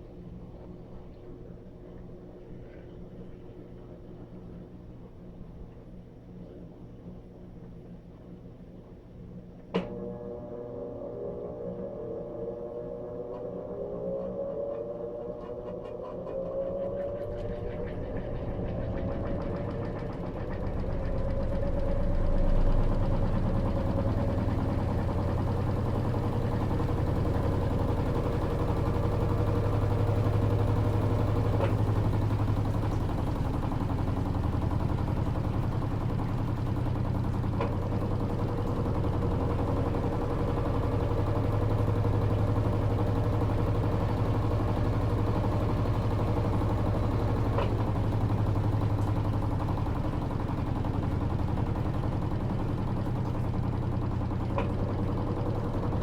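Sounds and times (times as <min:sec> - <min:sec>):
washing machine humming: 0:09.9 - 0:56.0.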